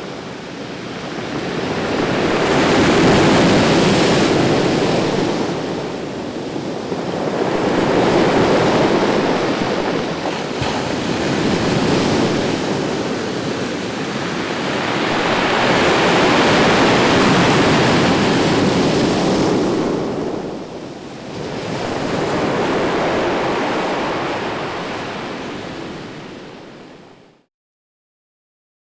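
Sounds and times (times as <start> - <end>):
ocean surf breaking on shore: 0.0 - 27.4.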